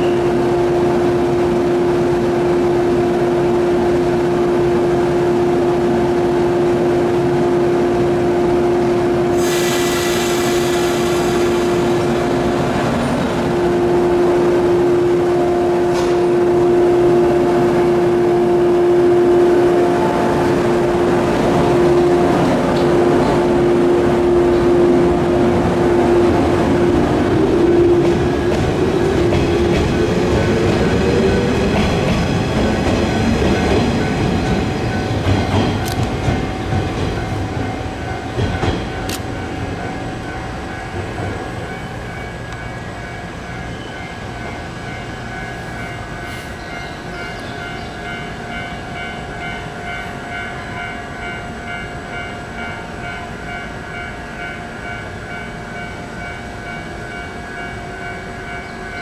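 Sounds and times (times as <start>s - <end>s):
electric train whine: 0.0s - 59.0s
train rumbling: 0.0s - 59.0s.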